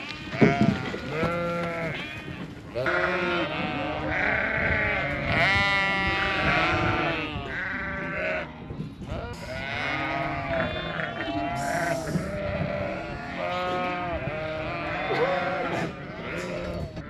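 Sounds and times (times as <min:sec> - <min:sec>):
sheep and lambs bleating: 0:00.0 - 0:17.0.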